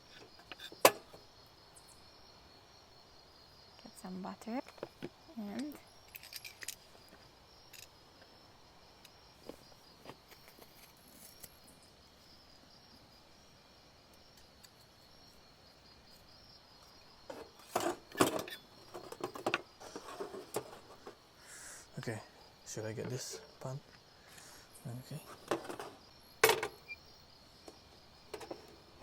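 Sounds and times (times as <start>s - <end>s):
crickets chirring: 0.0s - 29.0s.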